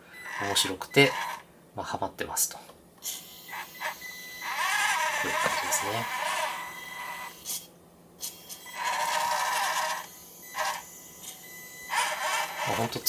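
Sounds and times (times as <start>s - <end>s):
small electric motor whining: 0.3s - 1.4s, 3.0s - 13.0s.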